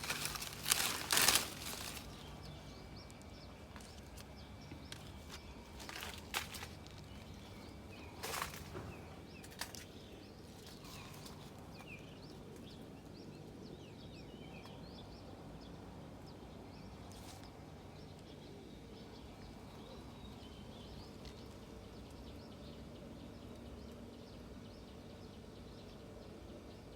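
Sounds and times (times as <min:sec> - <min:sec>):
outdoor background hum: 0:00.0 - 0:26.9
small birds chirping: 0:00.0 - 0:26.9.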